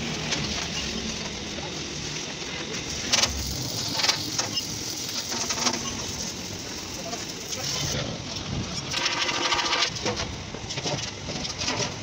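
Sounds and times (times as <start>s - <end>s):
arc welding sizzling hiss: 0.0s - 10.0s.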